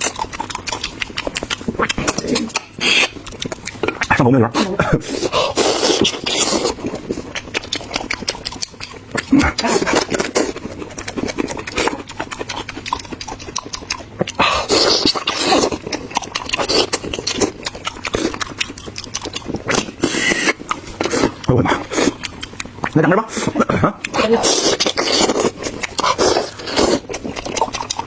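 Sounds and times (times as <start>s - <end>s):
crunching and chewing fried chicken: 0.0s - 28.0s.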